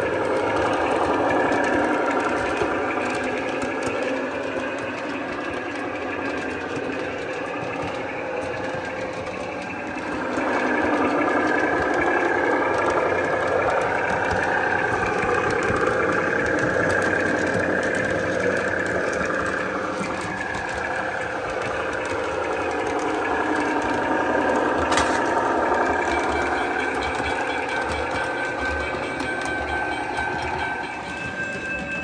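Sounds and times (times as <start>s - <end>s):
model train engine sound: 0.0s - 32.0s
model train wheels on rails: 0.0s - 32.0s.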